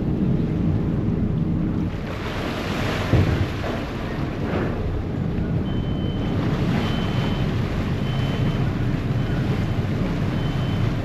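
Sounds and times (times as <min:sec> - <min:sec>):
ferry engine rumble: 0:00.0 - 0:11.0
propeller wash churning water: 0:00.0 - 0:11.0.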